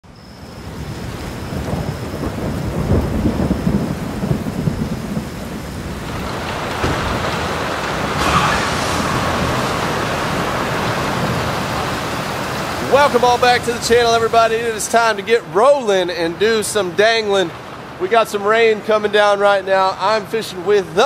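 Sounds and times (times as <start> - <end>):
thunder rumbling: 0.1 - 20.0
rain on a roof: 0.1 - 21.0.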